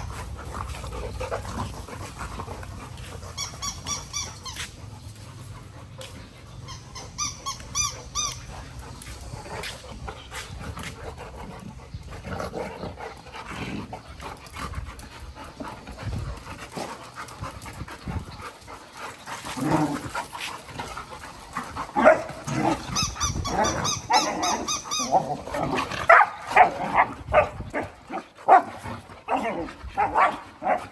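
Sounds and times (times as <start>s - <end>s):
dog vocal noises: 0.0s - 30.9s.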